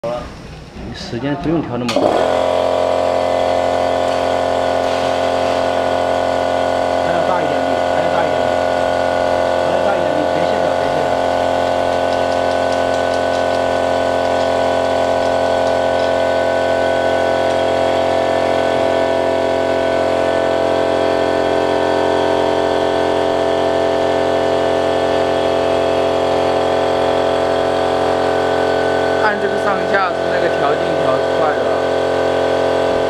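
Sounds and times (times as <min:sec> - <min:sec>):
machine motor droning: 0:02.0 - 0:33.0.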